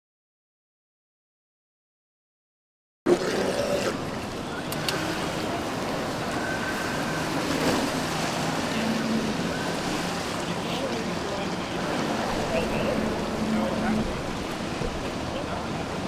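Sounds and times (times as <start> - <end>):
whitewater rushing: 3.1 - 16.0.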